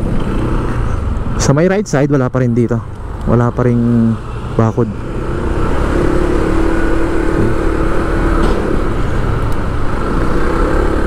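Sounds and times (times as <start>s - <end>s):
vehicle engine and road hum: 0.0s - 11.0s.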